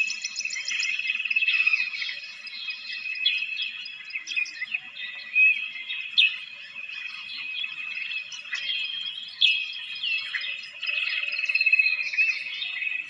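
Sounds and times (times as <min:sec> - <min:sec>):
high-pitched background bird chorus: 0:00.0 - 0:13.0
small birds chirping: 0:00.0 - 0:13.0.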